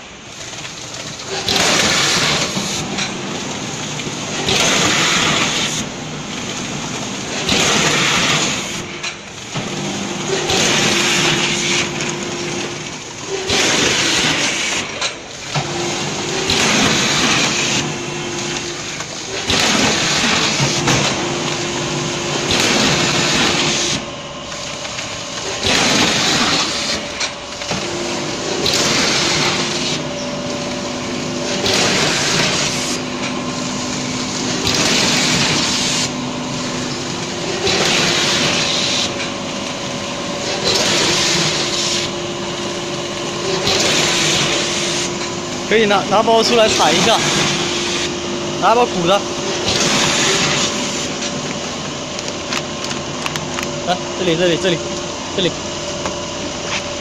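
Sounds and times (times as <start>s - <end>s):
machine hum: 0.0s - 57.0s
packing machine rushing hiss: 0.8s - 57.0s.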